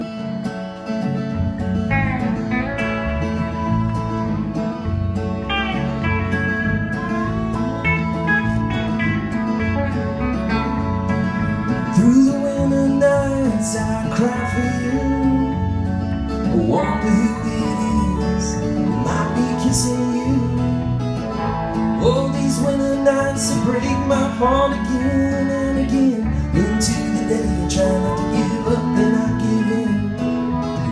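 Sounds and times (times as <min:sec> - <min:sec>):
country band playing live: 0:00.0 - 0:30.9
guitars: 0:00.0 - 0:30.9
bass line: 0:01.0 - 0:30.9.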